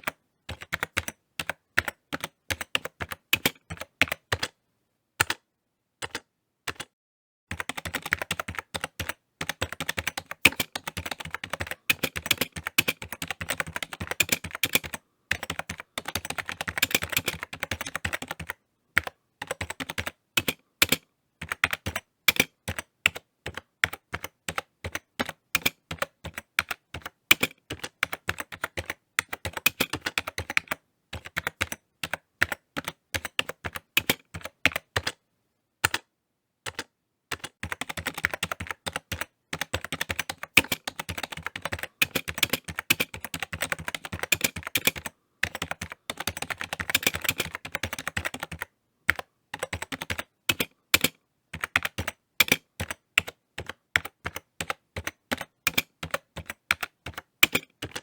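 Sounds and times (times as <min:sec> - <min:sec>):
typing on computer keyboard: 0:00.0 - 0:04.6, 0:05.2 - 0:05.4, 0:06.0 - 0:35.2, 0:35.8 - 0:58.0.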